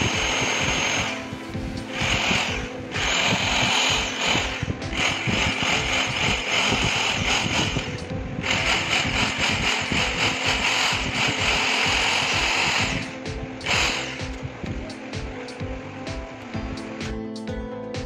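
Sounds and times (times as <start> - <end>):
electric drill running: 0.0 - 15.3
background music with a beat: 0.0 - 18.0.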